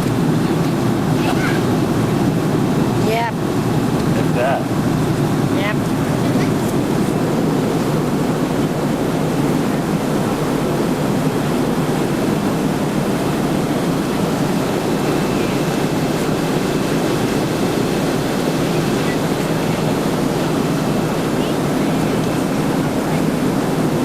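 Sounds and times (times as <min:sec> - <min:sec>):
airliner cabin noise: 0:00.0 - 0:24.0.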